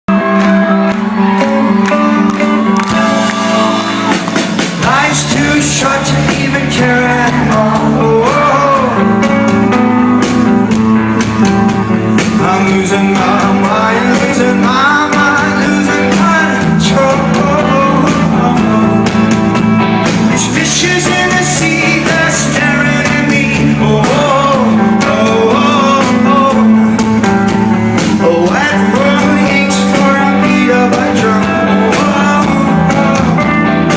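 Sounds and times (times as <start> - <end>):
rock band playing live: 0.1 - 33.9
man singing: 1.3 - 33.9.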